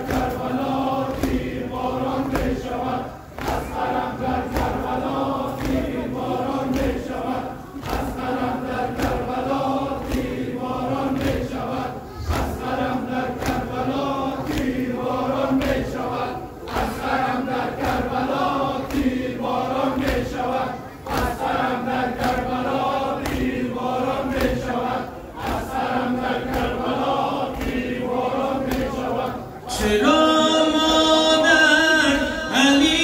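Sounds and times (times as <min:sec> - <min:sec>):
rhythmic chest-beating strikes: 0:00.0 - 0:30.0
crowd of men chanting: 0:00.0 - 0:33.0.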